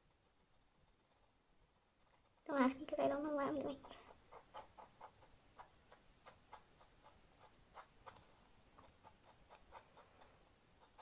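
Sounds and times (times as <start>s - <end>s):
pen nib scratching on paper: 0.0s - 11.0s.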